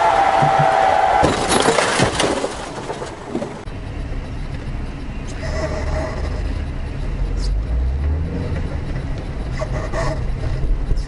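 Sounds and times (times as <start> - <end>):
car engine and road rumble: 0.1 - 11.0.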